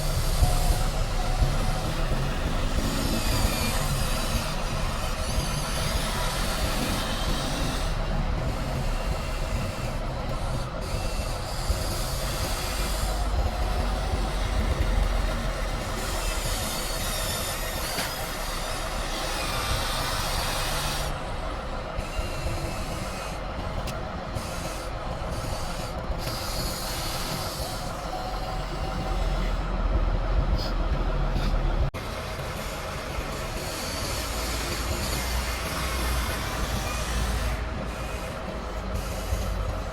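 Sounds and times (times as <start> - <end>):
electric motors whirring: 0.0 - 39.9.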